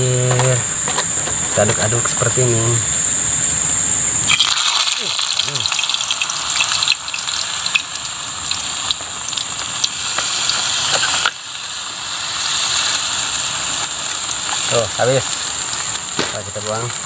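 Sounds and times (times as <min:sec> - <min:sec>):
batter sizzling in hot oil: 0:00.1 - 0:17.0.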